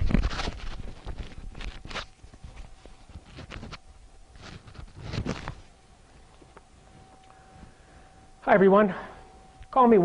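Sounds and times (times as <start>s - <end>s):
faint steady tone: 1.1s - 10.0s.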